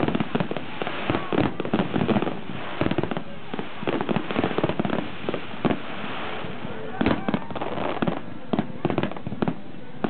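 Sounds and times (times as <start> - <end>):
fireworks bursting and crackling: 0.0 - 10.0.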